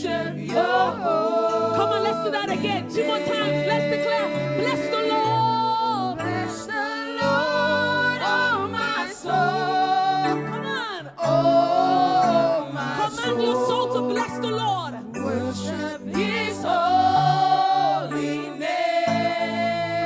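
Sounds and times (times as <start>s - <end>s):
group singing slow held notes: 0.0s - 14.4s, 15.1s - 20.0s
sustained keyboard chords: 0.0s - 20.0s.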